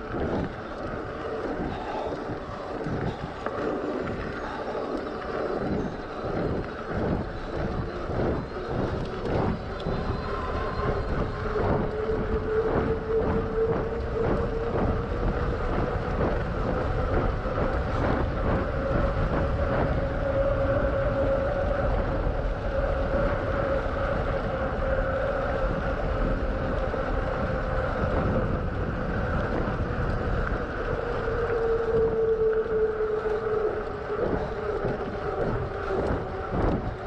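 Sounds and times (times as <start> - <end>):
wind on microphone: 0.0 - 37.0.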